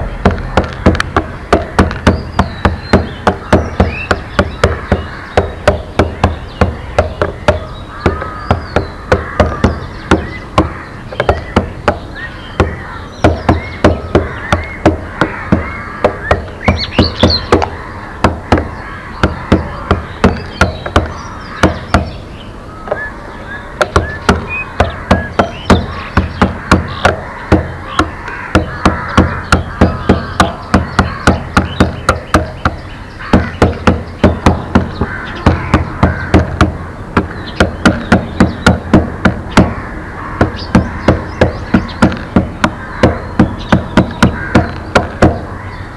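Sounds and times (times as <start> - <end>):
rapid sharp knocking: 0.0 - 22.2, 23.8 - 45.6
songbirds chirping: 0.0 - 45.9.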